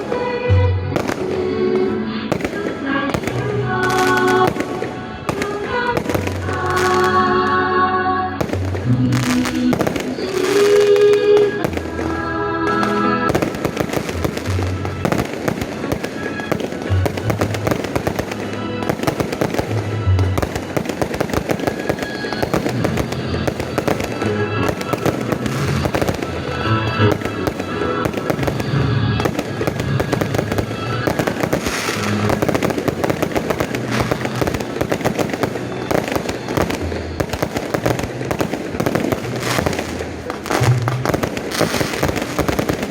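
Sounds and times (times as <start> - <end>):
fireworks bangs and crackles: 0.0 - 42.9
music playing: 0.0 - 42.9.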